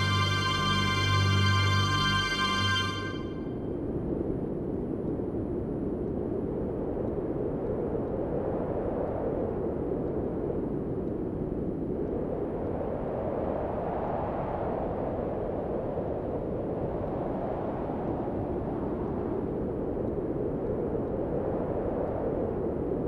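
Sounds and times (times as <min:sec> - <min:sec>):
low rushing wind: 0:00.0 - 0:23.0.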